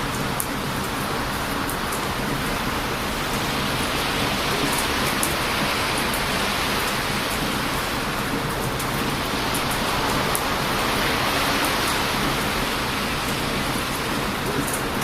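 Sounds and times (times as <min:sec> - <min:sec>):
heavy surf: 0:00.0 - 0:15.0
strong wind: 0:00.0 - 0:15.0.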